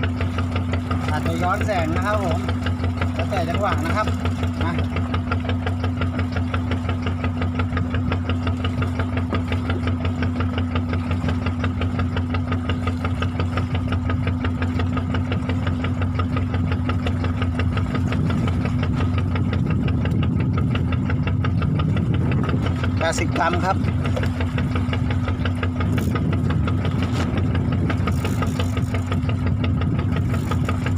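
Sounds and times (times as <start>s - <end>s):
boat engine knocking hum: 0.0s - 30.9s.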